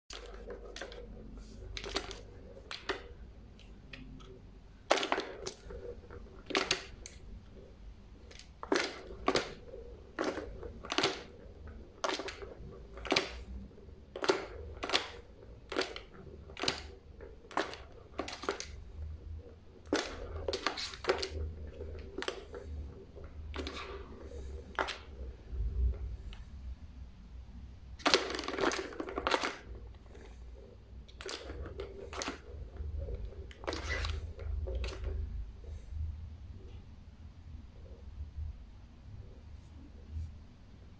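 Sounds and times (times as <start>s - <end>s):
plastic balls rattling in toy: 0.1s - 26.6s, 27.8s - 36.7s.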